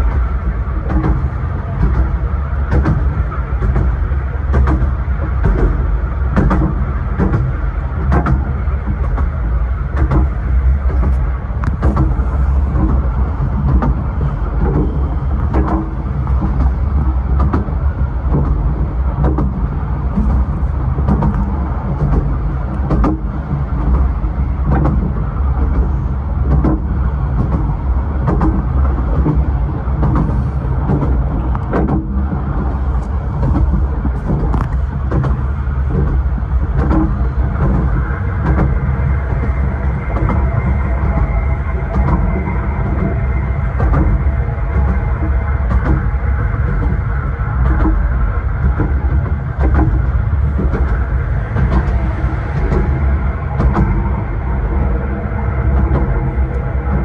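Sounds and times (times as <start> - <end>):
railway carriage rumble: 0.0 - 57.0
wheels clicking and knocking on track: 0.0 - 57.0.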